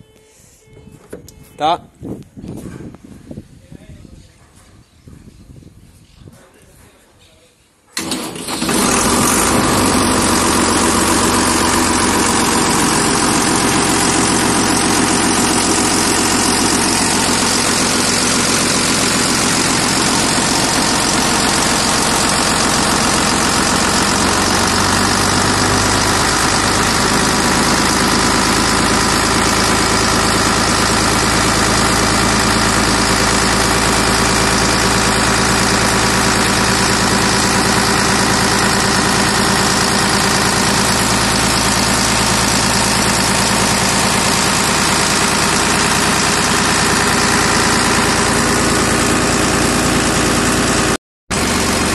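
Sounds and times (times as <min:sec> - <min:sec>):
diesel engine starting and idling: 0:08.0 - 0:51.9.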